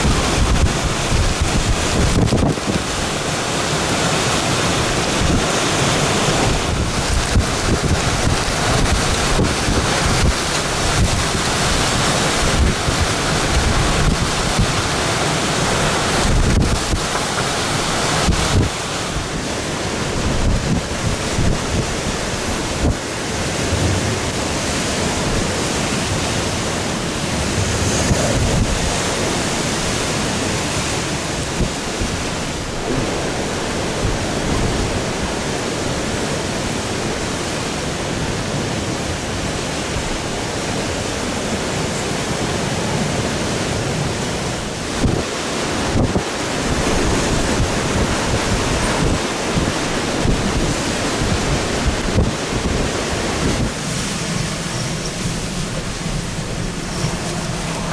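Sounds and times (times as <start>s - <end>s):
strong wind buffeting microphone: 0.0s - 57.9s.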